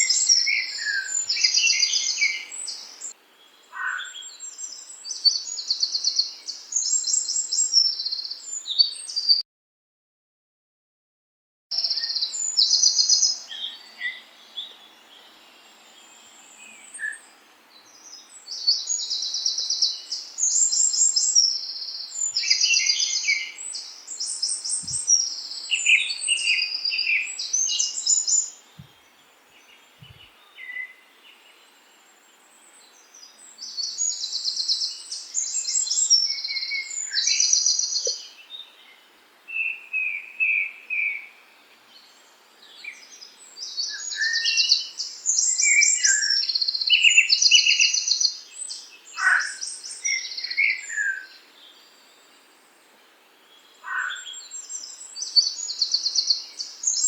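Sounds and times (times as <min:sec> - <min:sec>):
faint steady hiss: 0:00.0 - 0:09.4, 0:11.7 - 0:57.0
songbirds chirping trills: 0:00.0 - 0:09.4, 0:11.7 - 0:57.0.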